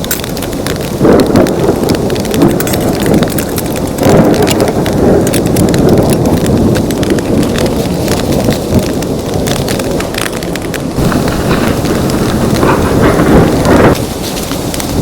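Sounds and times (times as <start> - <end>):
heavy rain on a tent: 0.0 - 15.0.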